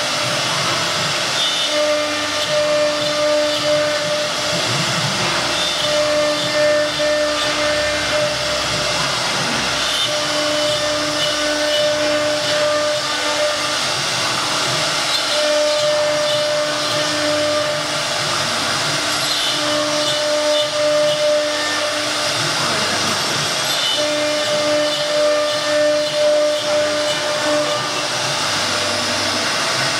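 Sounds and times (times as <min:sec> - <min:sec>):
pitched whine: 0:00.0 - 0:29.9
router spindle cutting board: 0:00.0 - 0:29.9.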